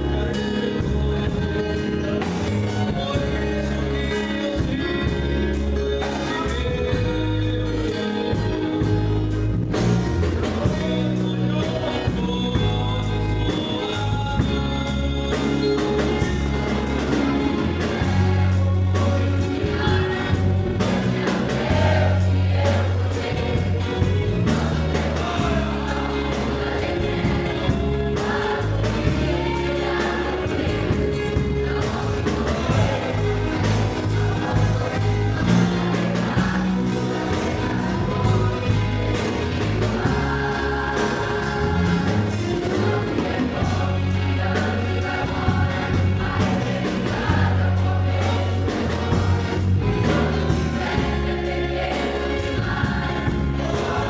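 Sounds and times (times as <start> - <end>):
choir singing gospel: 0.0 - 54.0
instrumental accompaniment with bass: 0.0 - 54.0.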